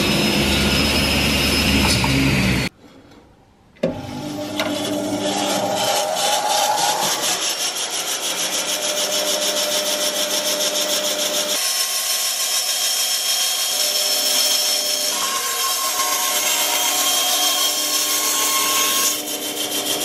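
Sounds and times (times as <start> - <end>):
bandsaw blade cutting plywood: 3.9 - 20.0.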